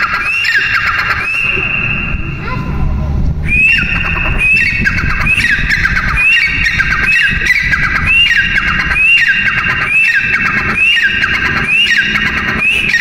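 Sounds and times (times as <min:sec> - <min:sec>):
bird calling loudly: 0:00.0 - 0:02.6, 0:03.4 - 0:13.0.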